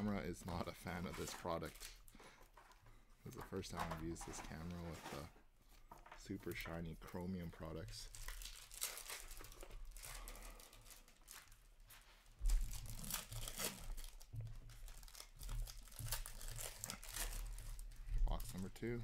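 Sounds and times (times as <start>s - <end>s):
card pack wrappers crinkling: 0.0s - 5.3s, 5.9s - 19.0s.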